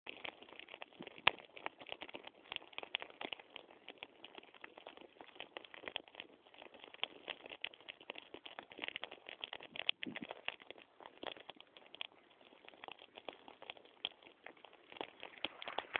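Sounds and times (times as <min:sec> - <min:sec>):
grass fire crackling: 0:00.1 - 0:15.9.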